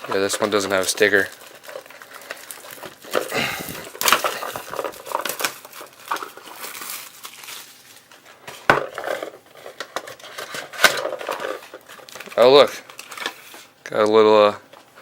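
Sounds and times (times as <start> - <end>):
packaging rustling and crinkling: 1.0 - 13.7.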